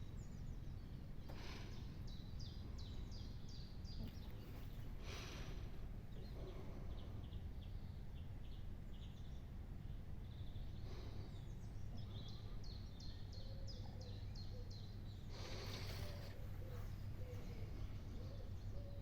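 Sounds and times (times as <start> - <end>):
small bird singing: 0.0 - 19.0
steady low rumble: 0.0 - 19.0.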